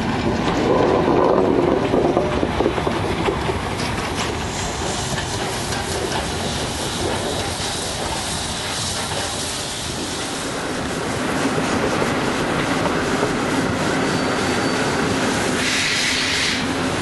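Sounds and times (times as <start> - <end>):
rail clatter: 0.0 - 17.0
train wheels rumbling on rails: 0.0 - 17.0.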